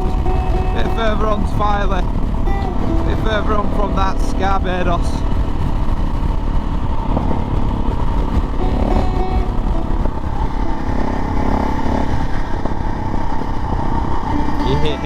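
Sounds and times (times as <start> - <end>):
motorcycle engine running: 0.0 - 15.0
riding wind rush: 0.0 - 15.0.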